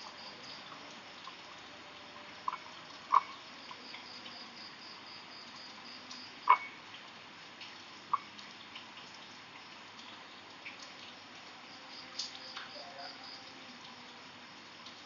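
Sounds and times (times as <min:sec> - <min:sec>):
crickets chirping: 0:00.0 - 0:08.3, 0:09.0 - 0:15.0.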